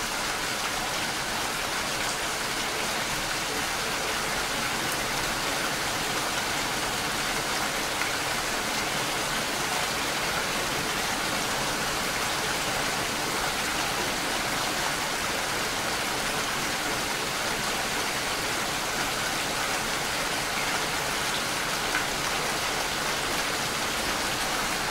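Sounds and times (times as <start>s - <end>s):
heavy rain on car roof: 0.1s - 24.9s.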